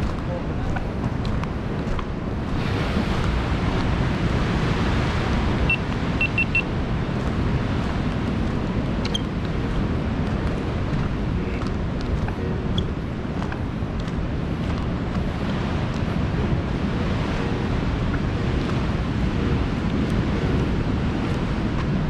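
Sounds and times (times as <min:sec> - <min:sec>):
ocean surf: 0:00.0 - 0:22.0
wind on microphone: 0:00.0 - 0:22.0.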